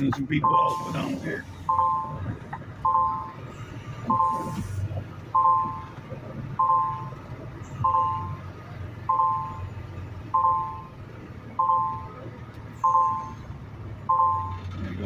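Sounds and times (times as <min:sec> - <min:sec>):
engine running low: 0:00.0 - 0:15.0
truck back-up alarm beeping: 0:00.3 - 0:14.8.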